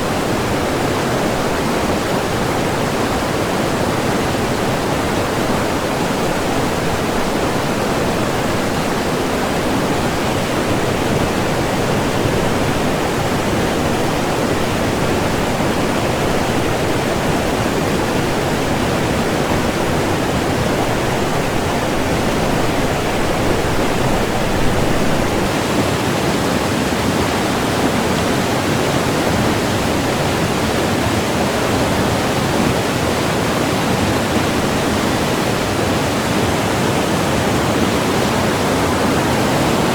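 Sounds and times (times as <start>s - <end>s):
white water rushing: 0.0s - 39.9s.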